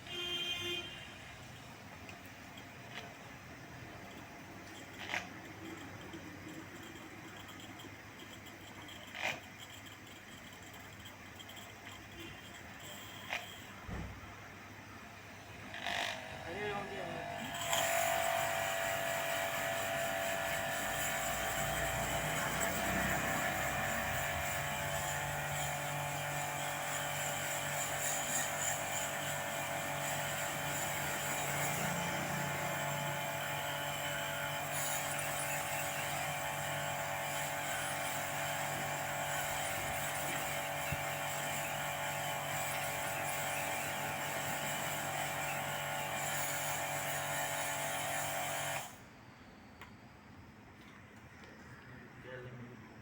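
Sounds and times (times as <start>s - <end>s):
pressure washer motor droning: 0.0s - 49.0s.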